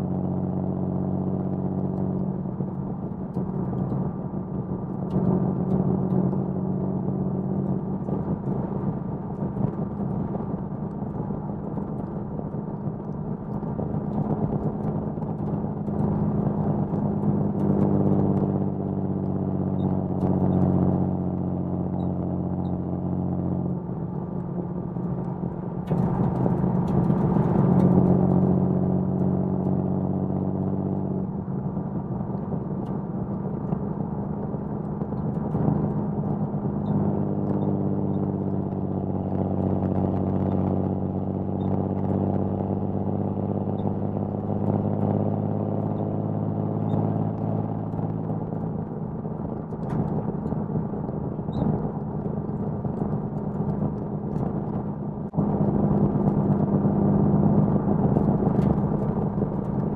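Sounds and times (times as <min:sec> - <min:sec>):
car engine and exhaust driving: 0:00.0 - 0:59.9.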